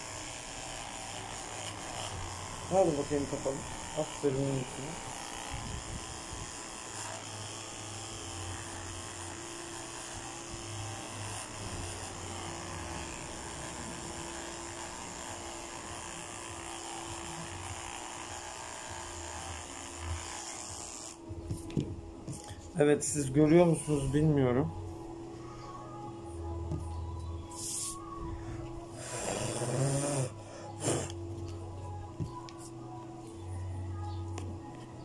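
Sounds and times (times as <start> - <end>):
electric clippers buzzing: 0.0 - 35.0.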